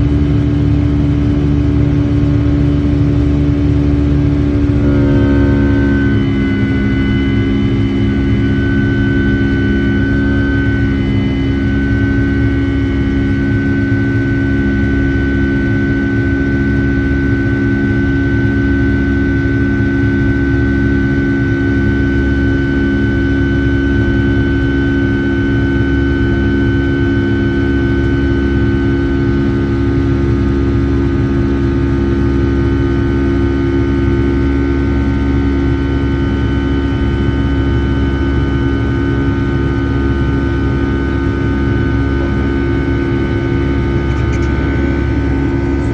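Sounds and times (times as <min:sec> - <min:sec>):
jet engines in cabin: 0:00.0 - 0:45.9.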